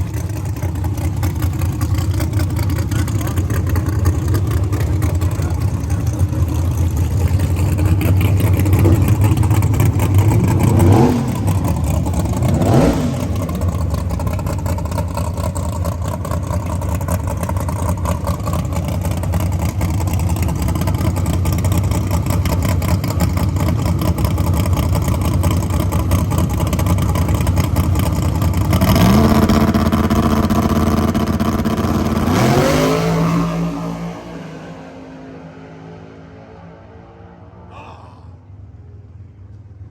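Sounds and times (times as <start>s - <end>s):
drag-race car engines revving: 0.0s - 37.8s.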